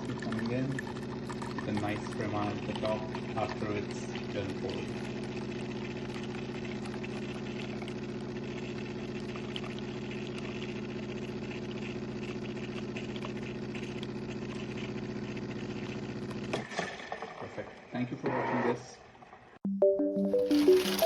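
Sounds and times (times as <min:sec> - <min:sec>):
drip coffee maker humming: 0:00.0 - 0:16.9, 0:19.8 - 0:21.0.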